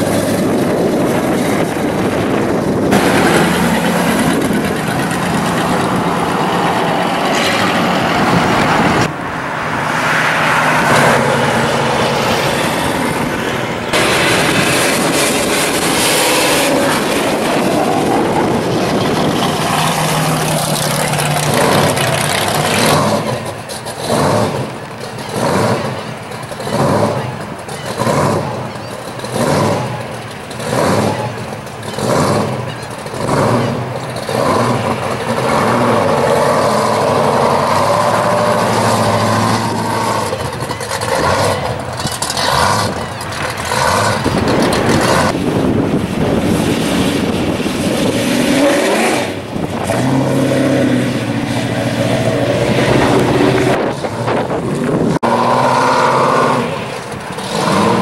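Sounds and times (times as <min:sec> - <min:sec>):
supercharged car engine: 0:00.0 - 0:58.0.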